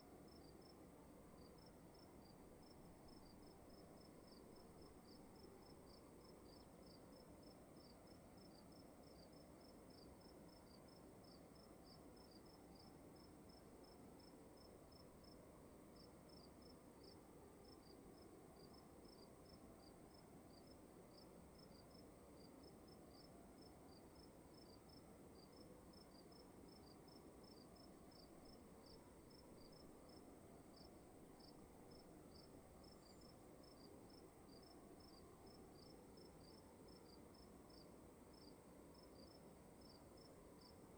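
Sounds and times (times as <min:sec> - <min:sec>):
faint cricket chirping: 0:00.0 - 0:40.9
low room hiss: 0:00.0 - 0:40.9.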